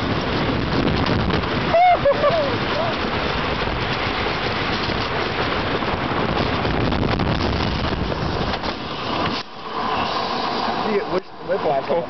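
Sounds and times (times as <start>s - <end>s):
roller coaster train rumbling: 0.0s - 12.0s
wind buffeting microphone: 0.0s - 12.0s.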